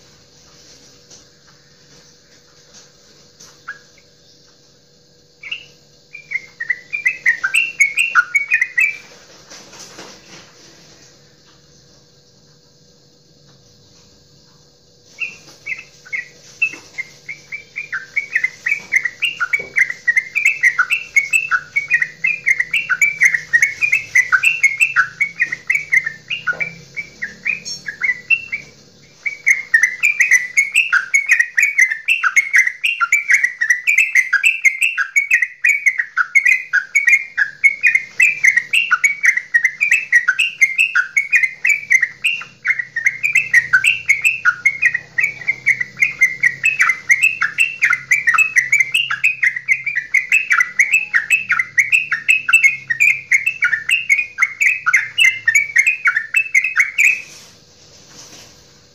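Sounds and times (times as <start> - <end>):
steady hiss: 0.0 - 58.9
bird chattering song: 1.0 - 10.4, 15.0 - 58.9.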